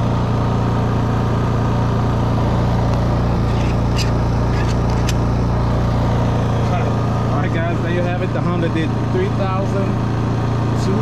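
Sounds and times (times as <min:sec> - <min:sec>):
generator engine under load: 0:00.0 - 0:11.0.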